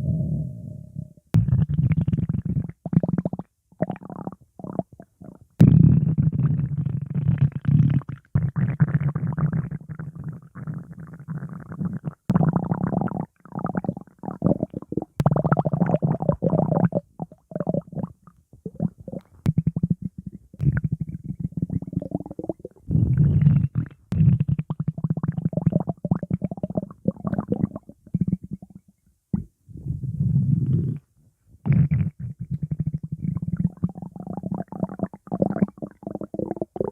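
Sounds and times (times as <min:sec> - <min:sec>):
stomach growling: 0:00.0 - 0:36.9.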